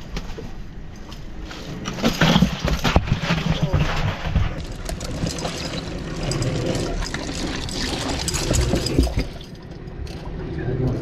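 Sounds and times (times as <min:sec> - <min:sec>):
water sloshing and splashing: 0:01.4 - 0:10.4.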